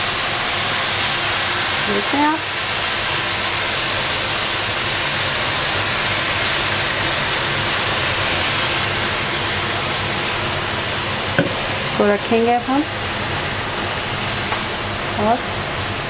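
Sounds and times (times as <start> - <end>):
pastry sizzling under poured syrup: 0.0 - 16.0.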